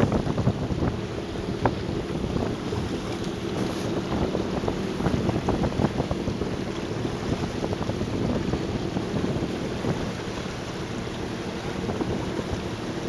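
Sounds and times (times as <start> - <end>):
boat engine drone: 0.0 - 13.0
water washing: 0.0 - 13.0
wind buffeting microphone: 0.0 - 13.0.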